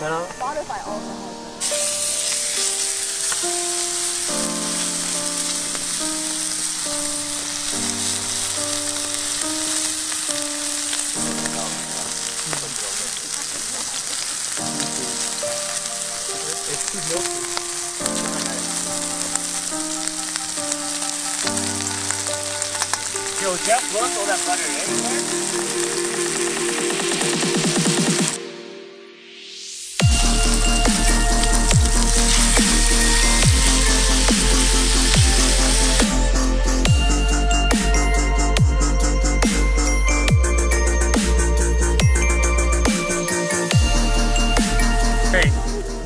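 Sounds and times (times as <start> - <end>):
food sizzling in a hot pan: 0.0 - 28.4, 29.8 - 38.3, 41.0 - 46.0
slow sustained chord music: 0.0 - 46.0.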